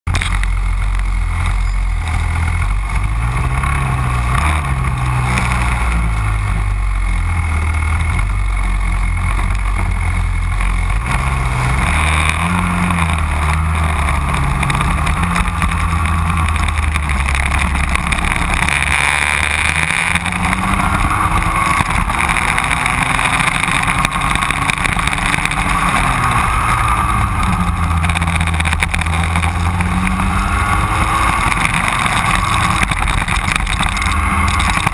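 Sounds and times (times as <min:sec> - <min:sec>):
kart engines revving: 0:00.1 - 0:34.9.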